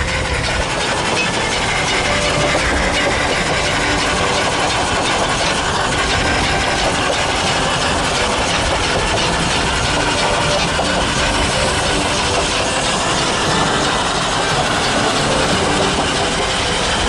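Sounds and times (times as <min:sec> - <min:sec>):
train clattering on rails: 0:00.0 - 0:17.0.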